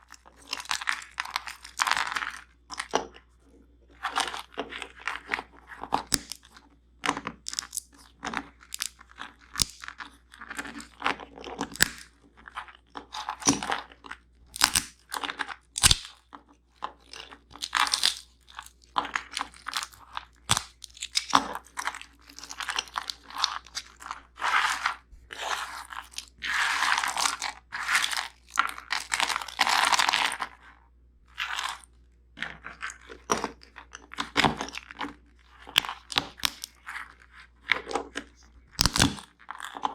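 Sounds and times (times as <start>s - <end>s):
nuts and seeds crunching: 0.0s - 3.2s, 7.5s - 39.9s.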